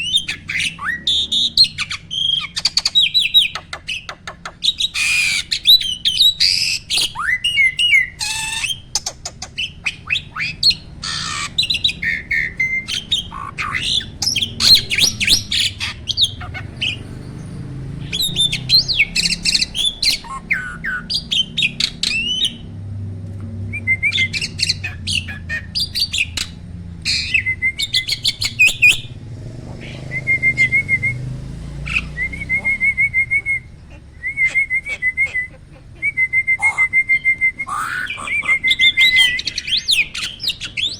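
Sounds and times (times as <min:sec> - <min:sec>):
starling singing: 0:00.0 - 0:22.8, 0:23.4 - 0:40.9.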